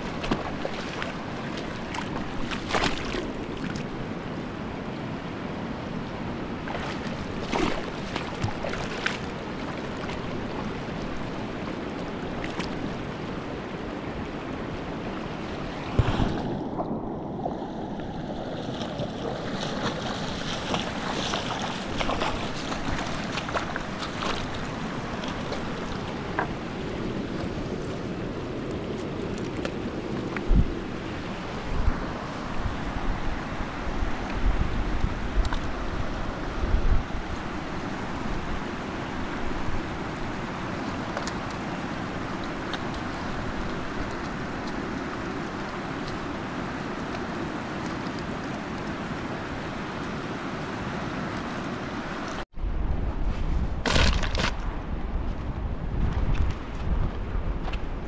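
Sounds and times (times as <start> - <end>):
fast-flowing river water: 0.0 - 52.5.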